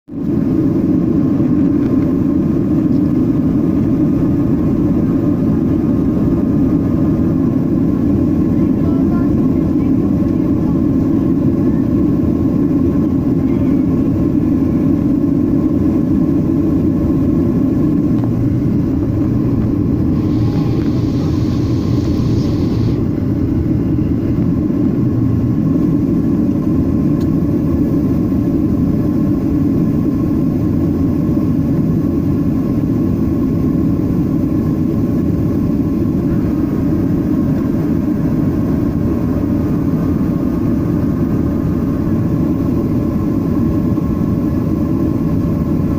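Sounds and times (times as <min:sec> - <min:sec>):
jet engine rumble in flight: 0:00.1 - 0:45.9.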